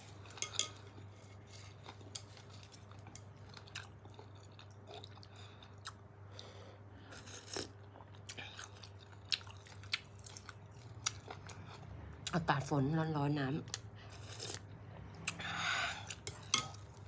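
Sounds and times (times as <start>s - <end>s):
person chewing noodles: 0.1s - 11.9s, 13.7s - 17.0s.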